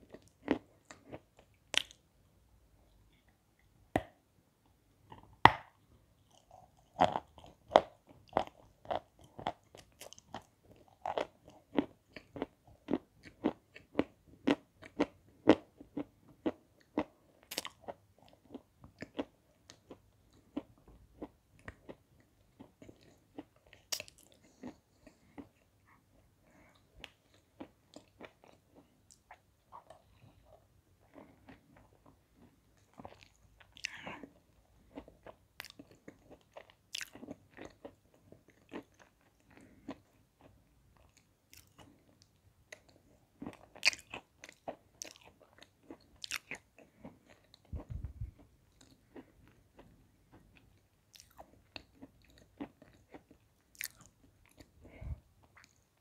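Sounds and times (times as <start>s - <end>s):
crunchy chewing: 6.3s - 55.8s.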